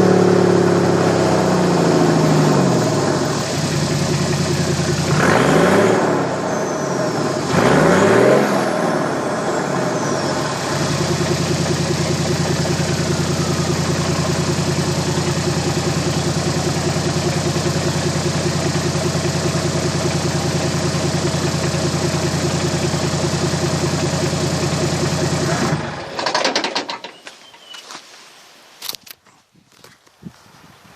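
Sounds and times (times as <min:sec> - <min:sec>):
car engine revving and idling: 0:00.0 - 0:26.6.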